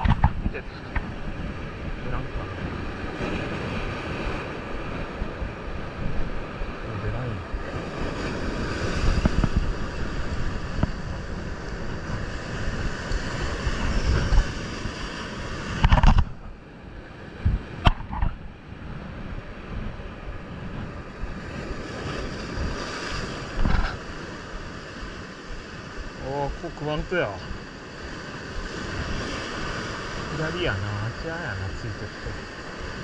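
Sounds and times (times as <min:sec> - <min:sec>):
sea surf breaking over rocks: 0:00.0 - 0:33.0
wind buffeting the microphone: 0:00.0 - 0:33.0.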